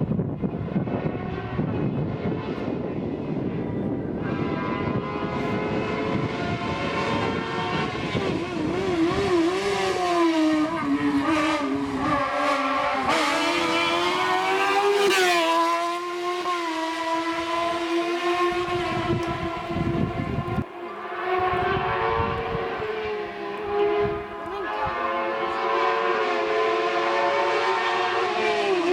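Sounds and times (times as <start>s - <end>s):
race car engine accelerating: 0.4s - 28.9s.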